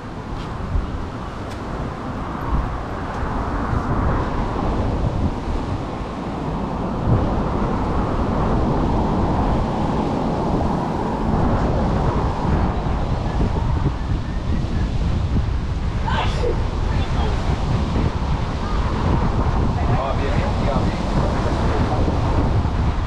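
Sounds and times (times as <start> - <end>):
steady outdoor rush: 0.0 - 23.0
wind buffeting microphone: 0.0 - 23.0.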